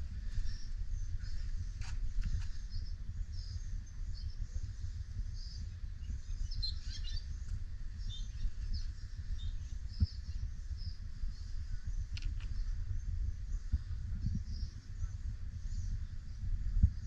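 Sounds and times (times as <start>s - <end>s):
low rumble: 0.0s - 17.0s
small birds chirping: 0.0s - 17.0s.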